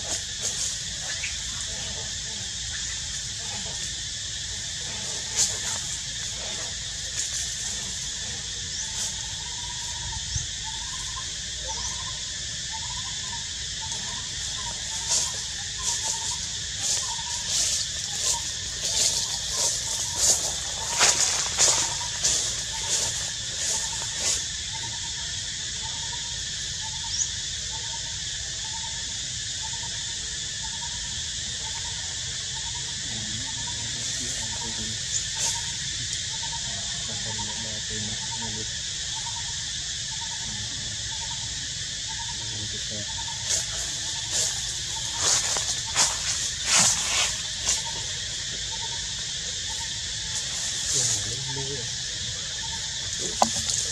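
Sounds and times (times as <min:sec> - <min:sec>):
high outdoor hiss: 0:00.0 - 0:53.9.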